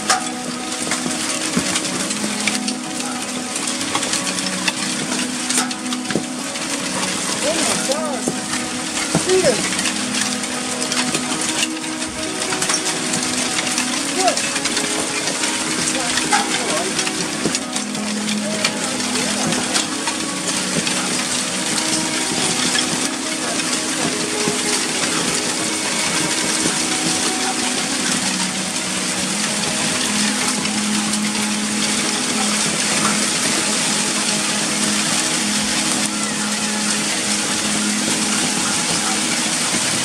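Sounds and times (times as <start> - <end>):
hail and rain on tile roof: 0.0 - 40.0
sharp ticks of hailstones: 0.0 - 40.0.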